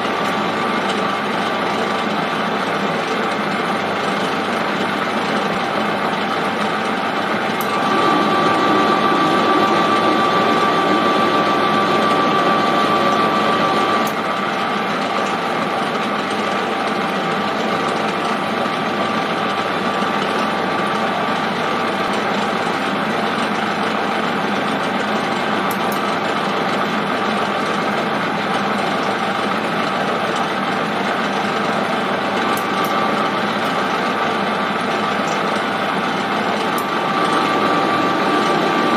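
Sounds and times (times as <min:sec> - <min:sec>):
metal lathe whining: 0:00.0 - 0:38.9.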